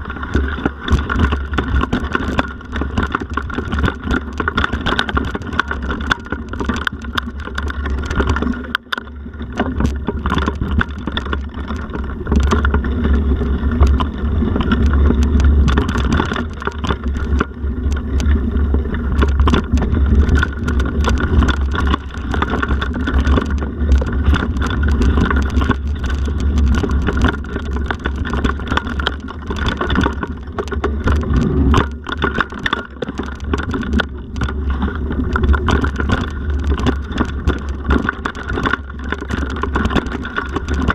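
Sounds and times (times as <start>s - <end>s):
bike rattling over stones: 0.0s - 40.9s
wind rumble on microphone: 0.0s - 40.9s.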